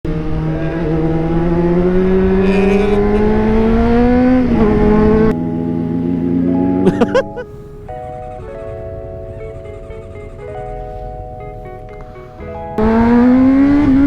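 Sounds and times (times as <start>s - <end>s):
motorcycle engine accelerating: 0.1s - 10.5s, 11.1s - 14.0s.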